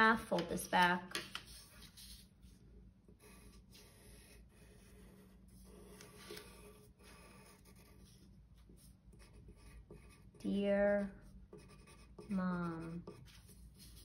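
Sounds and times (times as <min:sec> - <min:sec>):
pencil scratching on paper: 0:01.3 - 0:14.0.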